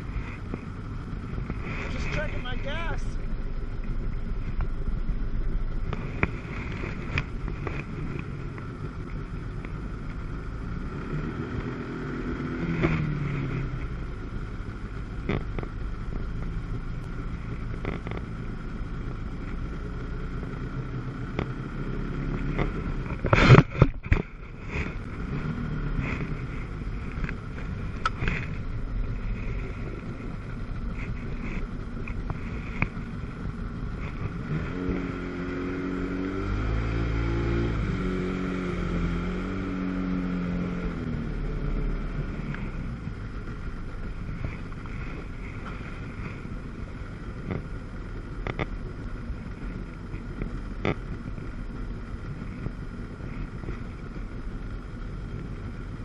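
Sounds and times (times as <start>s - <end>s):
personal watercraft engine running: 0.0s - 56.0s.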